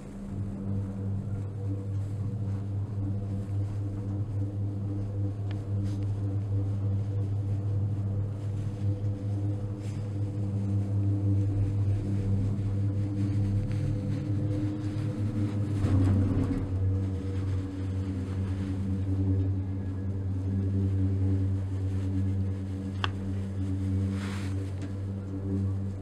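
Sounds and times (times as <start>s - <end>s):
cable car low hum: 0.0s - 26.0s.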